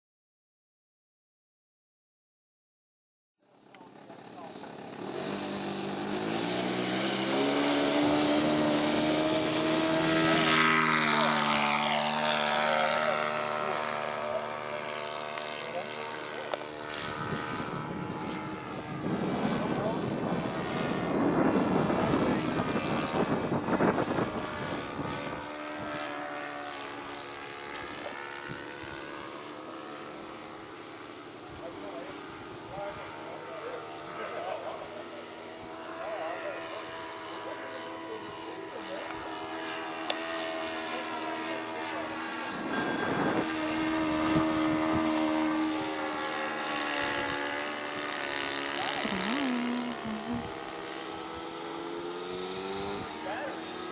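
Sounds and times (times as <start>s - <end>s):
model airplane engine buzzing: 3.4s - 53.9s.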